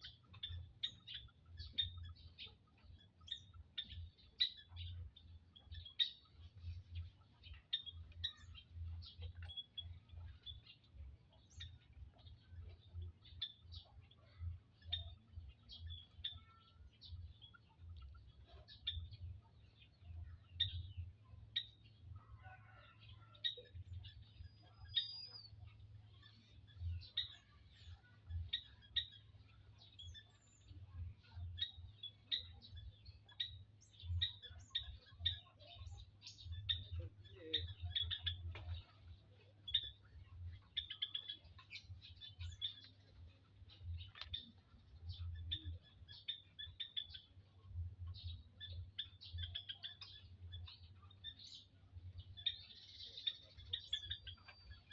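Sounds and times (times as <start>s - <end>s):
quail peeping chirps: 0.0s - 54.9s.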